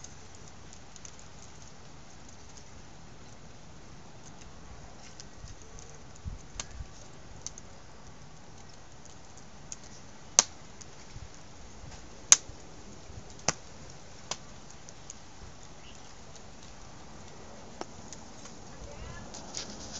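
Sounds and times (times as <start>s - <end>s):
sharp pops of burning wood: 0.0s - 19.9s
wood fire crackling: 0.0s - 19.9s.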